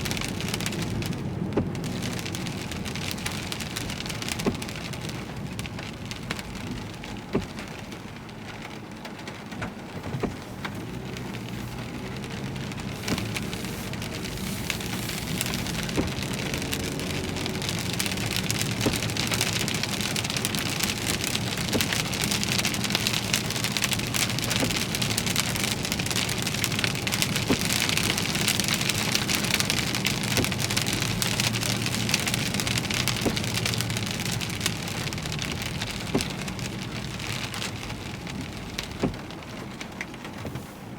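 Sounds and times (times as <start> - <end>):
heavy rain drumming on a car: 0.0 - 40.9.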